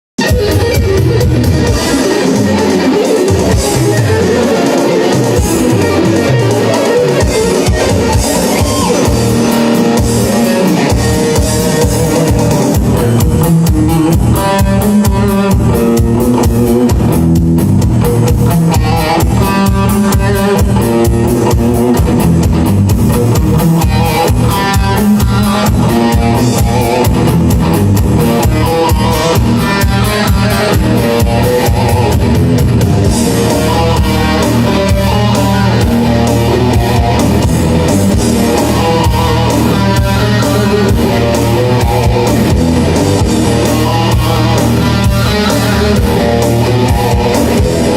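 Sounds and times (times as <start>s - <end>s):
drums keeping a steady beat: 0.2s - 47.9s
electric guitar shredding: 0.2s - 47.9s.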